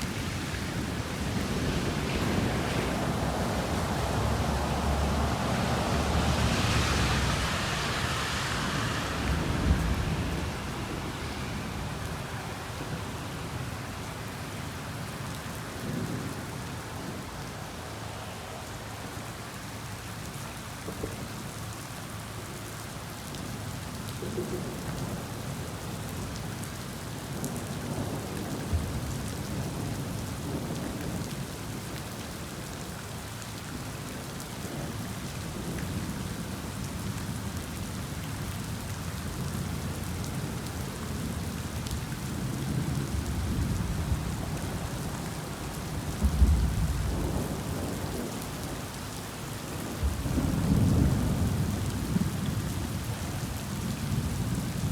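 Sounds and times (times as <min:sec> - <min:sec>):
heavy rain on a vehicle: 0:00.0 - 0:54.9.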